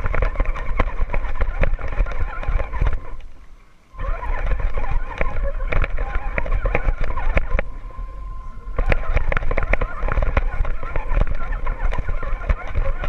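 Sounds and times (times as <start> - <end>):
twigs and grass scraping: 0.0 - 13.0.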